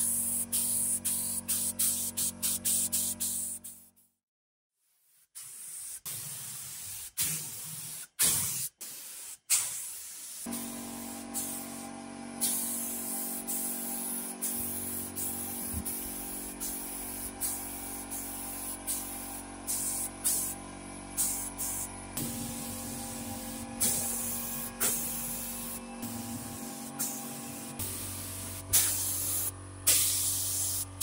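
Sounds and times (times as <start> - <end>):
spray gun hissing: 0.0 - 3.8, 5.0 - 11.8, 12.4 - 20.6, 21.2 - 31.0.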